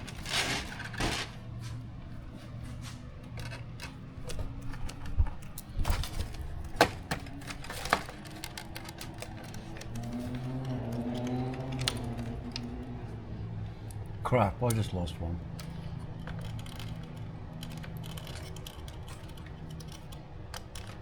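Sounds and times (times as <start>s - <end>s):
plastic and metal parts clicking: 0.0s - 1.4s, 3.1s - 21.0s
low steady hum: 0.0s - 21.0s.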